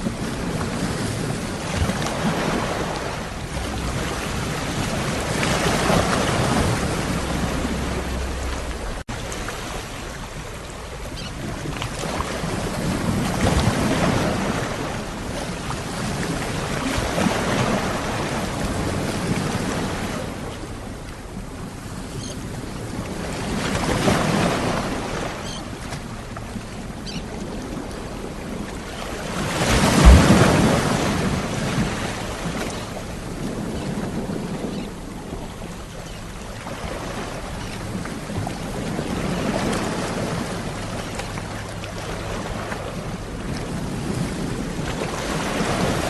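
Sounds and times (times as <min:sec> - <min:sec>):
sea waves washing onto shore: 0:00.0 - 0:46.0.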